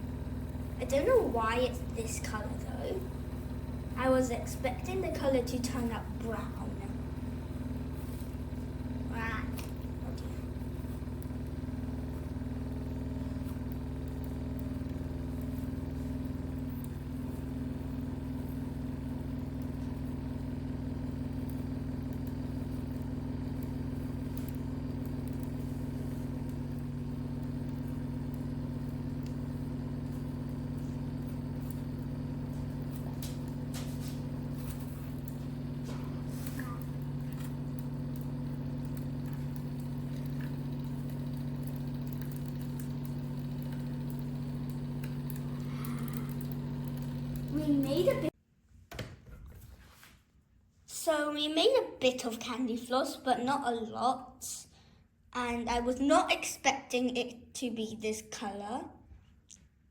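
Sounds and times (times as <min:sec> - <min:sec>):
electric motor humming: 0:00.0 - 0:48.4.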